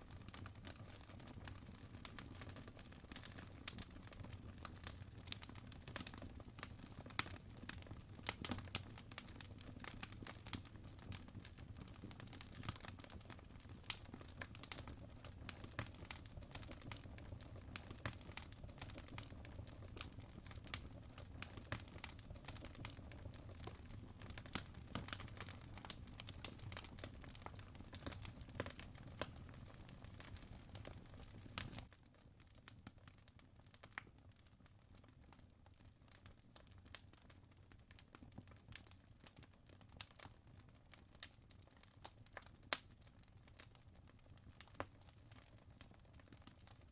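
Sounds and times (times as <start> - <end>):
fireplace fire crackling: 0.0 - 46.9.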